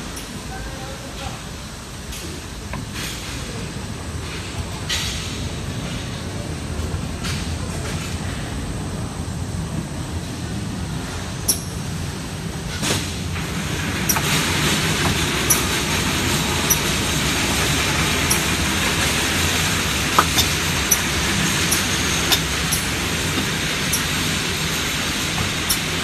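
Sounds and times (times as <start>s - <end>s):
factory machinery running: 0.0s - 26.0s.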